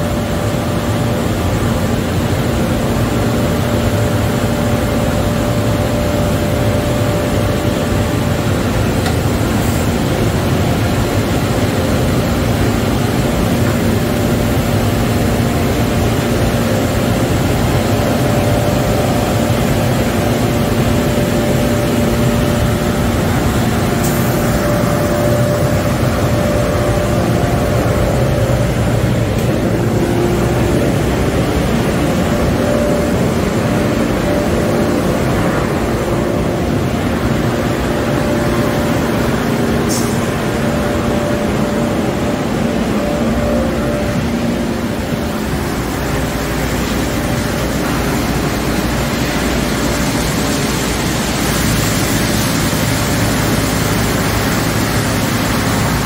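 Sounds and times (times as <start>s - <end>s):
car wash machinery whirring: 0.0s - 56.0s
constant low hum: 0.0s - 56.0s.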